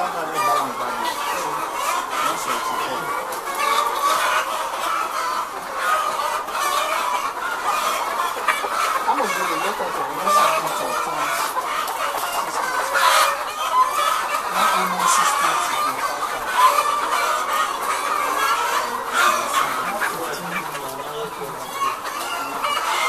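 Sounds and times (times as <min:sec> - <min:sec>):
hens clucking: 0:00.0 - 0:23.0.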